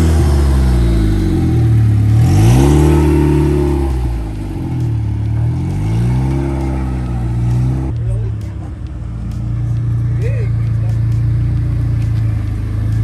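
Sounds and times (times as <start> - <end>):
car engine pulling away: 0.0 - 13.0.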